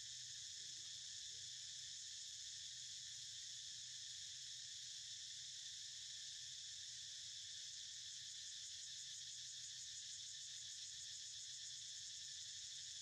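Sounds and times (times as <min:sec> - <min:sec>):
shrill insect chorus: 0:00.0 - 0:13.0.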